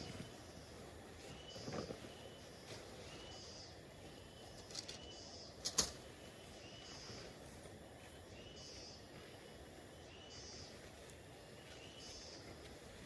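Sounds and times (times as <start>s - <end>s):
low forest hiss: 0.0s - 13.0s.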